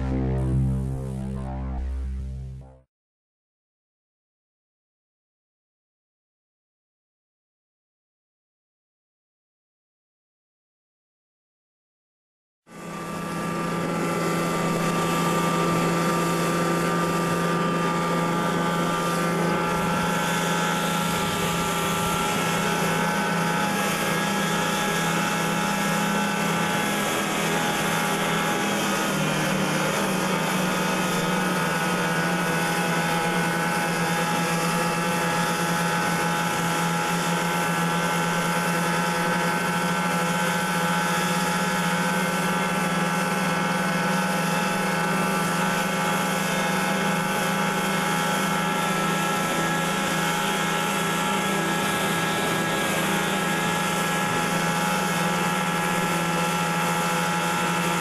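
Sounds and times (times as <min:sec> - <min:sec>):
snowmobile engine running: 0:00.0 - 0:02.8, 0:12.7 - 0:58.0.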